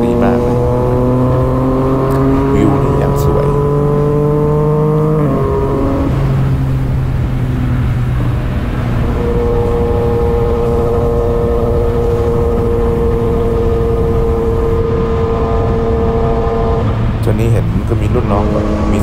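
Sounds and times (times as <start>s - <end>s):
motorcycle engine running: 0.0s - 19.0s
wind rumble on microphone: 0.0s - 19.0s.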